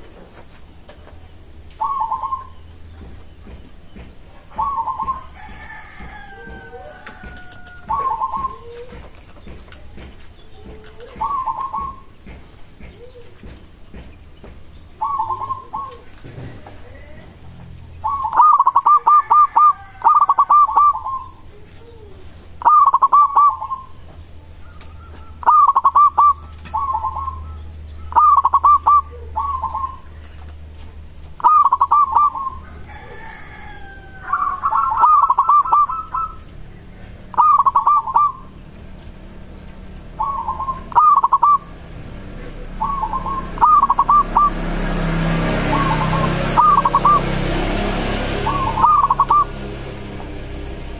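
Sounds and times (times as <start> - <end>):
dove cooing trilled coos: 1.7 - 2.7, 4.5 - 14.0, 15.0 - 17.4, 18.0 - 30.4, 31.4 - 38.6, 39.8 - 50.7.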